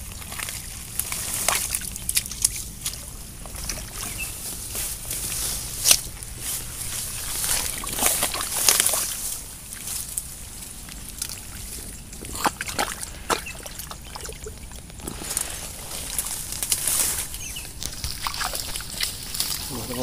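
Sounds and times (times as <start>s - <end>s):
wet mud squelching and splashing: 0.0s - 20.0s.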